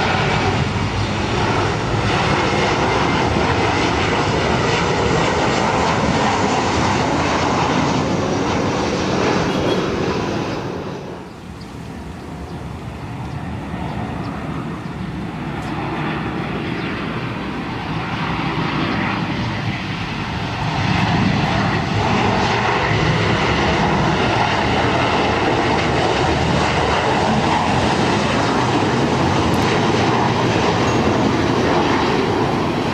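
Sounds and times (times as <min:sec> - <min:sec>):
jet engine noise: 0:00.0 - 0:32.9.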